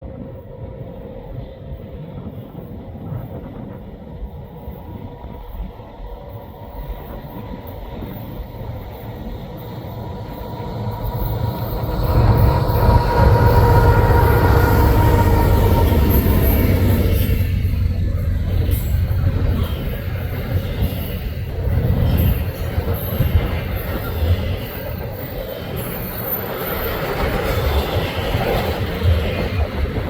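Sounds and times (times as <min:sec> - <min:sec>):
freight train rumbling: 0:00.0 - 0:30.0.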